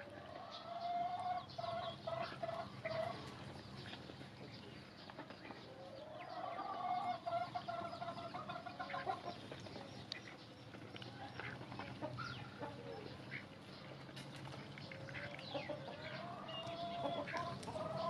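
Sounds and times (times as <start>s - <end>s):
chickens clucking: 0.0s - 18.0s
ducks pecking grain from plastic trough: 0.0s - 18.0s.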